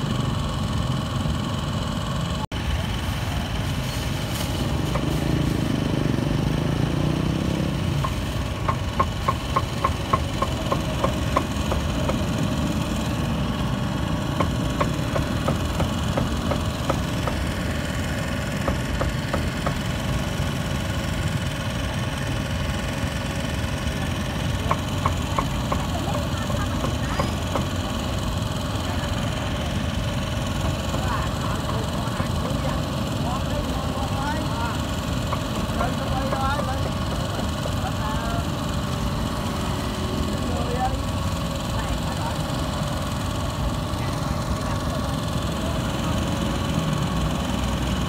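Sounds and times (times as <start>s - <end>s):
steady engine drone: 0.0s - 48.0s.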